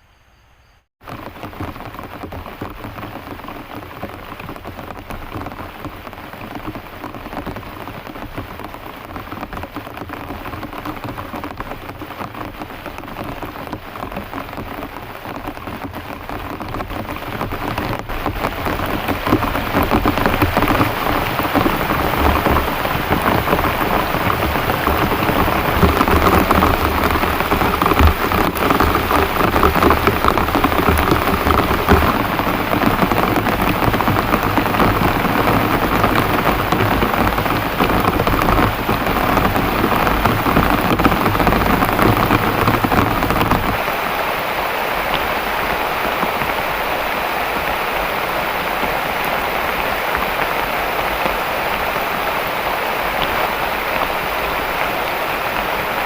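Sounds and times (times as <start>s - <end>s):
heavy rain pouring: 1.0s - 56.0s.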